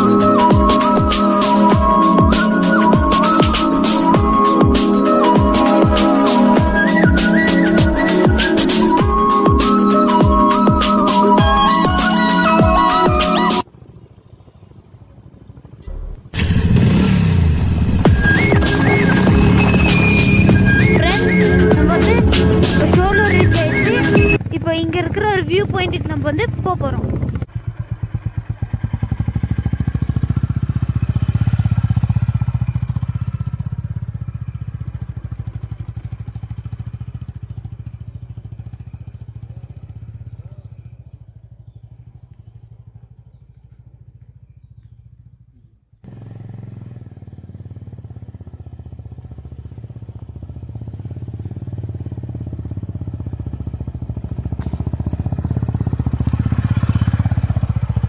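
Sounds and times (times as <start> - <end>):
motorcycle engines at low speed: 0.0 - 58.0.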